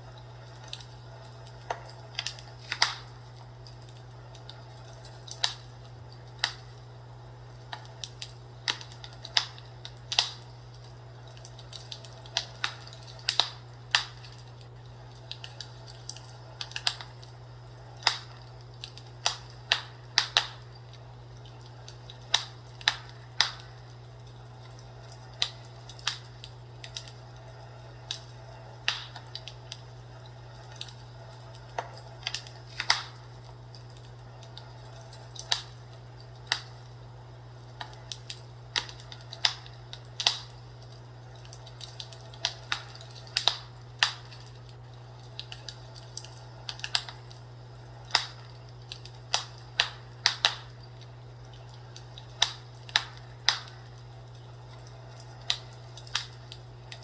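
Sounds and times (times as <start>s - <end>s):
fireplace crackling: 0.0s - 57.0s.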